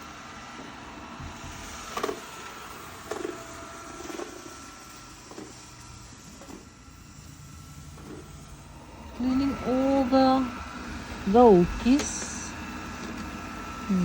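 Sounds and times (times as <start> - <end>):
robot vacuum humming: 0.0 - 14.0.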